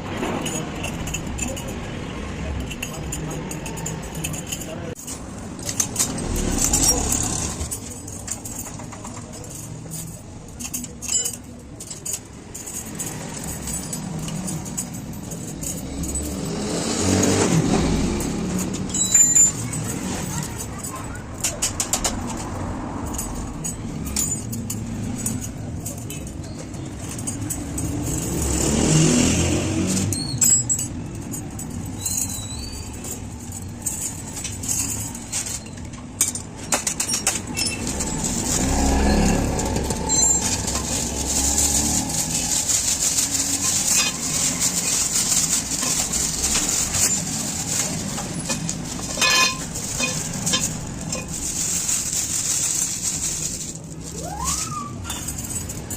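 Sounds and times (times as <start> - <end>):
steady low traffic rumble: 0.0 - 55.9
vehicles passing: 0.0 - 55.9.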